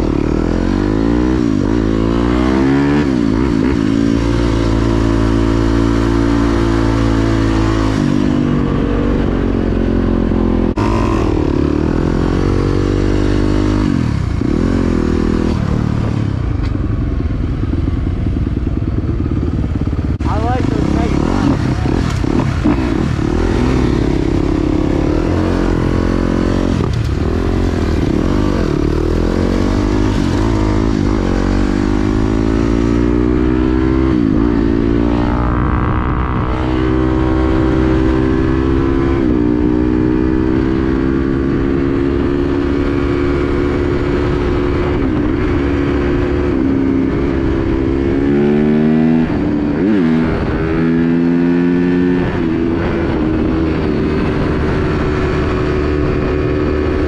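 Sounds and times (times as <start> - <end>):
dirt bike engine accelerating: 10.6 - 57.0.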